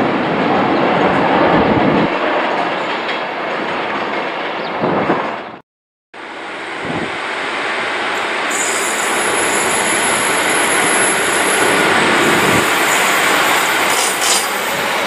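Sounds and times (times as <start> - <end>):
train rumble and clatter: 0.0 - 5.6, 6.2 - 15.0.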